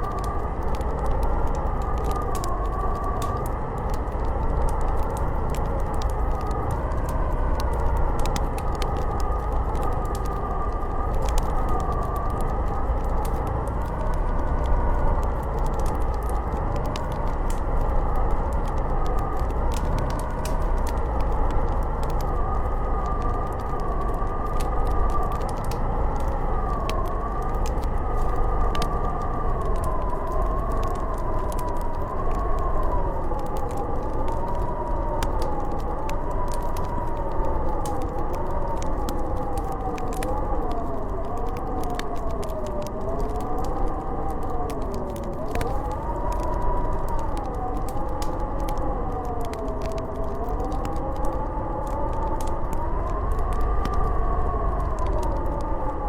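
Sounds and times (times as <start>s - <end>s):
howling blizzard wind: 0.0s - 56.0s
fireplace crackling: 0.1s - 52.8s.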